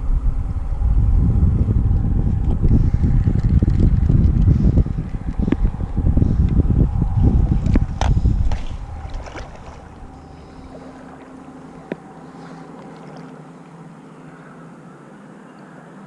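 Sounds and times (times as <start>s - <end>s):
wind buffeting microphone: 0.0s - 13.6s
faint steady low hum: 0.0s - 16.0s.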